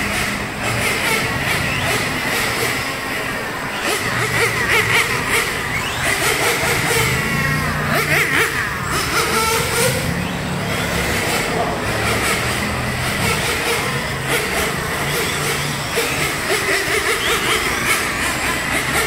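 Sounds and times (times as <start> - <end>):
rc car motors revving: 0.0 - 19.0.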